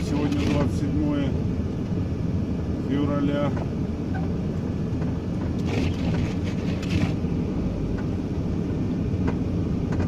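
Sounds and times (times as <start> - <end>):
van engine and tyre rumble: 0.0 - 10.0.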